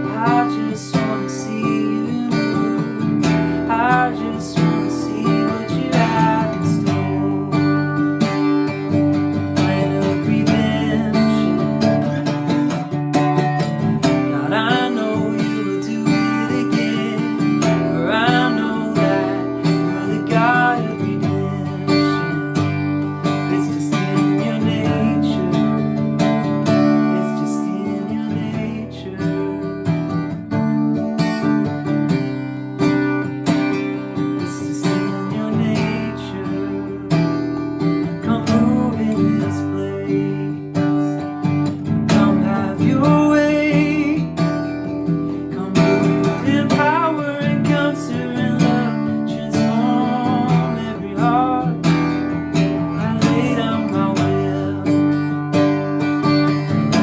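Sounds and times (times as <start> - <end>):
man singing: 0.0 - 30.3, 32.8 - 57.0
acoustic guitar strumming: 0.0 - 57.0.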